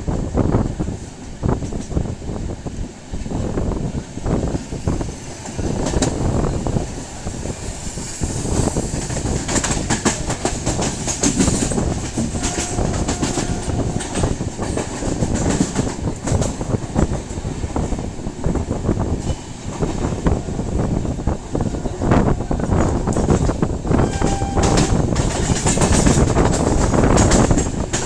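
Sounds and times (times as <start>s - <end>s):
train rumbling: 0.0s - 28.0s
wheels clattering over rail joints: 4.3s - 21.9s, 22.5s - 28.0s.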